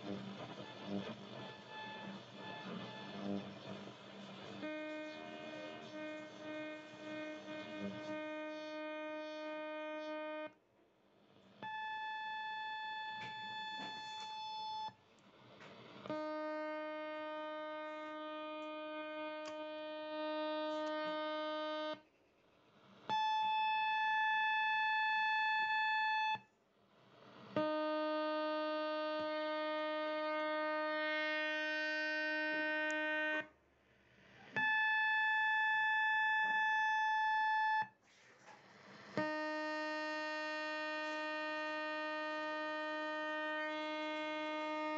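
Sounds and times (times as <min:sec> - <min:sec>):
electronic buzzing radar tone: 0:00.0 - 0:10.6, 0:11.6 - 0:15.0, 0:15.9 - 0:22.0, 0:23.1 - 0:26.4, 0:27.6 - 0:33.5, 0:34.4 - 0:38.0, 0:38.9 - 0:44.9.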